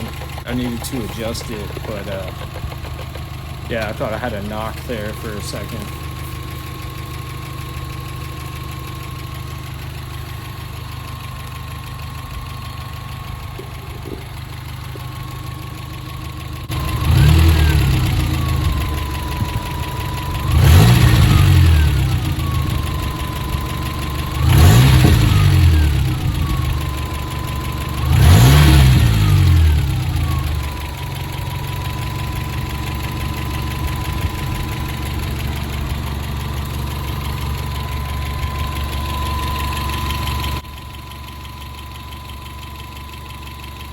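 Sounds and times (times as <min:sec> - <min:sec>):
car engine idling and revving: 0:00.0 - 0:43.9
engine whine: 0:00.0 - 0:43.9.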